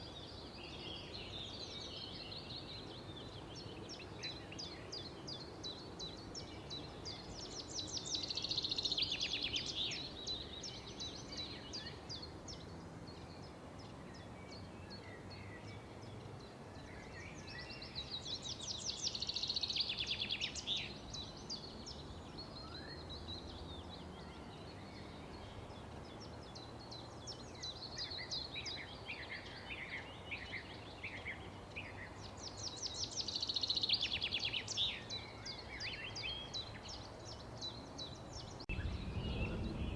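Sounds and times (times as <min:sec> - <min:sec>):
bird chirps: 0:00.0 - 0:39.9
low background noise: 0:00.0 - 0:39.9.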